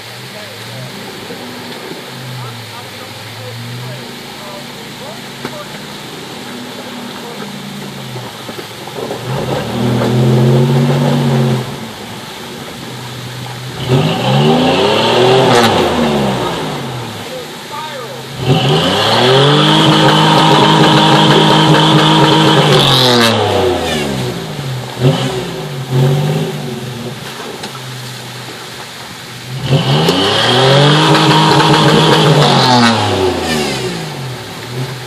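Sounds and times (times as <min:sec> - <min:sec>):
high steady whine: 0:00.0 - 0:35.0
vehicle engine revving: 0:00.0 - 0:35.0.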